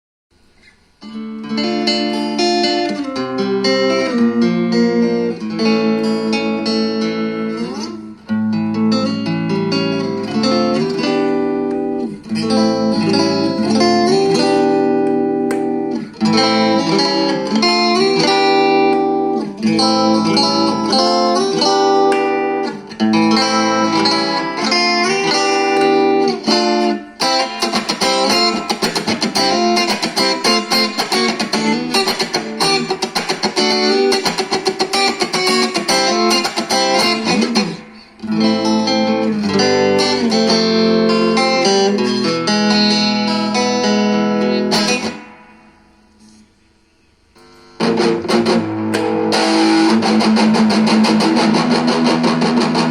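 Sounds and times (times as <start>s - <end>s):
electric guitar chords and picking: 0.4s - 52.9s.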